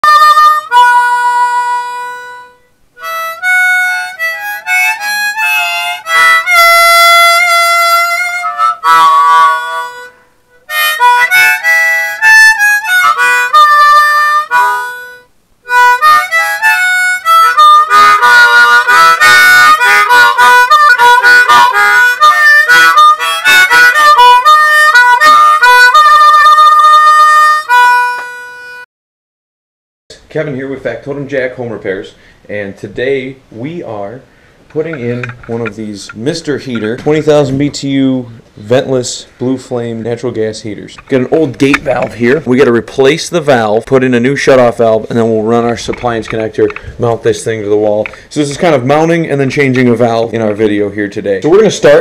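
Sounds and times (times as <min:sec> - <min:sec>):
harmonica music: 0:00.0 - 0:28.9, 0:33.9 - 0:52.0.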